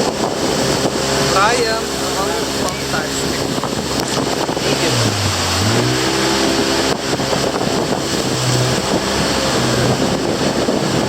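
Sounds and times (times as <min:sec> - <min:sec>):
motor engine running: 0:00.0 - 0:11.0
wind noise on microphone: 0:00.0 - 0:11.0.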